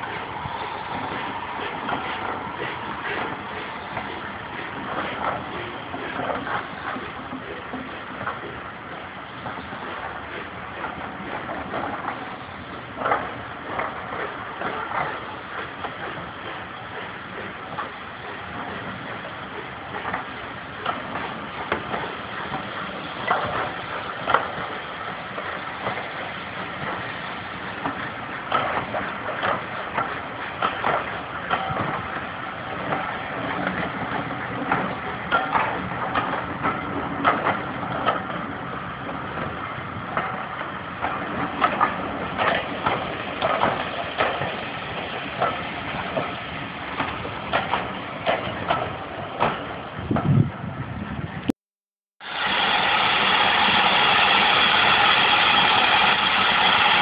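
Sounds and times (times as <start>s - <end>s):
clicks and clunks of train: 0.0s - 51.6s, 52.2s - 57.0s
train wheels rumbling on track: 0.0s - 51.6s, 52.2s - 57.0s.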